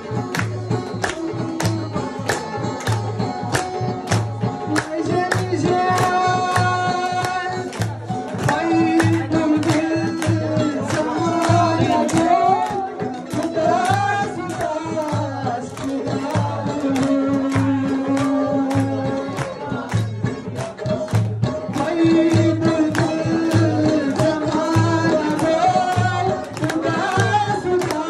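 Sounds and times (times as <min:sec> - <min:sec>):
drum beat: 0:00.0 - 0:28.0
man singing: 0:00.0 - 0:28.0
plucked sitar: 0:00.0 - 0:28.0.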